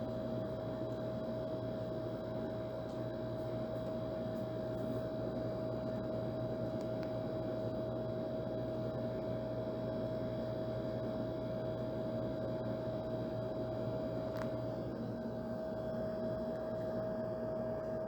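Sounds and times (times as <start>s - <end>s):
air conditioner running: 0.0s - 18.0s.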